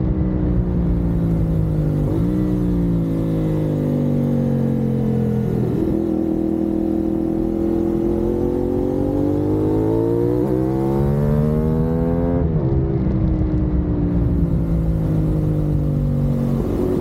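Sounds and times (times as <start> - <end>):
motorcycle engine accelerating: 0.0 - 17.0
wind rumbling on microphone: 0.0 - 17.0.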